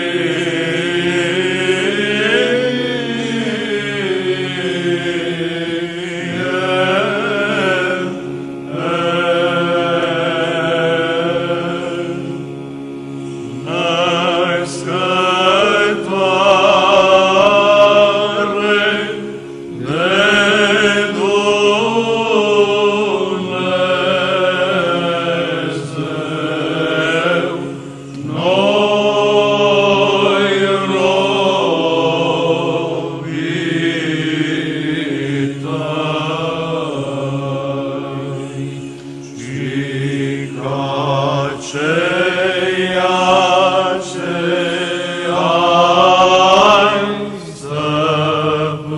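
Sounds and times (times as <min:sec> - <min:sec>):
held vocal drone: 0:00.0 - 0:48.9
voices chanting a slow melody: 0:00.0 - 0:48.9.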